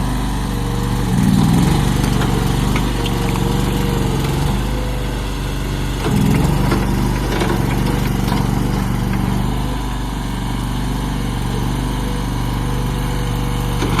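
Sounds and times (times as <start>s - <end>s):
loader engine running: 0.0s - 14.0s.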